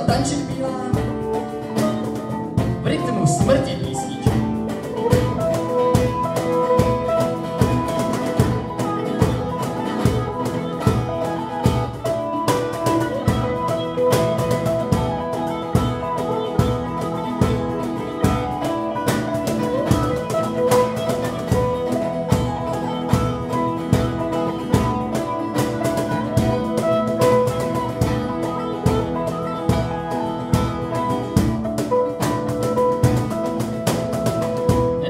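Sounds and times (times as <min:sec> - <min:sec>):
electric guitars ringing notes: 0:00.0 - 0:35.0
percussion beats: 0:00.0 - 0:35.0.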